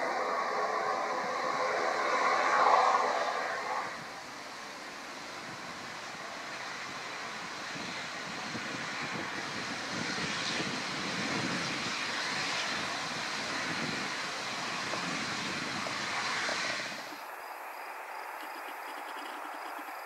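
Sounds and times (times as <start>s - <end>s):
turboprop engines and propellers: 0.0s - 20.0s.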